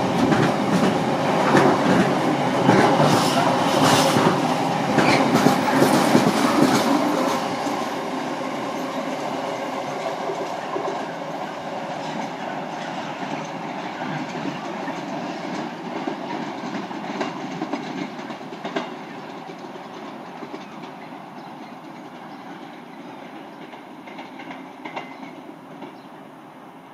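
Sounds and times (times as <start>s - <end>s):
freight train wagons rumbling: 0.0s - 26.9s.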